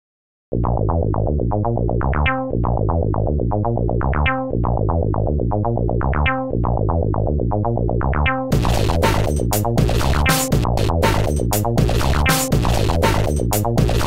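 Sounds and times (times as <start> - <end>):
music with short notes and bass: 0.5 - 14.0.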